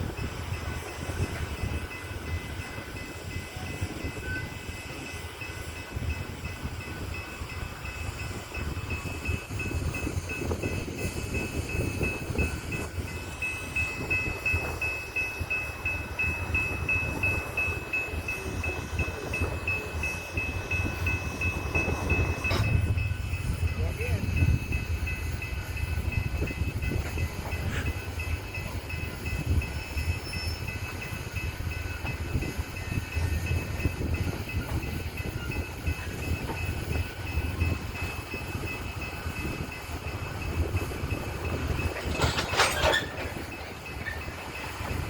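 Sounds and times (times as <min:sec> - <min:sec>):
train cars rumbling on rails: 0:00.0 - 0:45.0.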